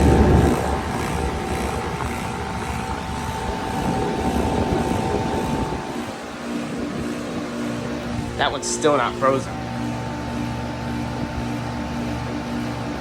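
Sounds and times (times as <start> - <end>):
heat pump compressor and fan: 0.0 - 13.0
thin steady whine: 0.0 - 13.0.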